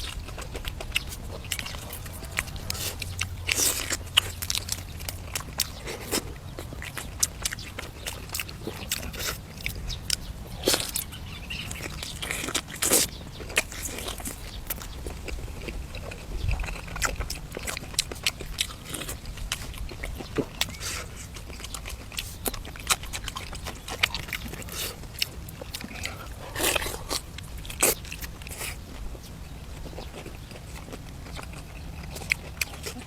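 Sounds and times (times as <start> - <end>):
person chewing and crunching: 0.0 - 33.0.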